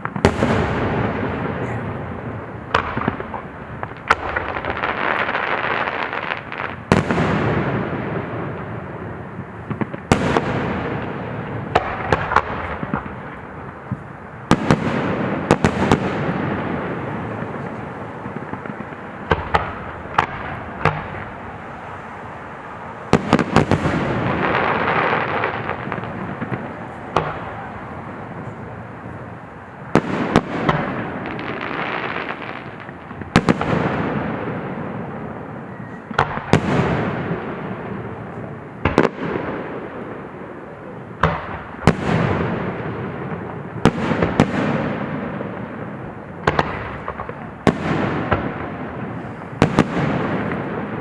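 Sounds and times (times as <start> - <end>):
fireworks bursting: 0.0 - 51.0.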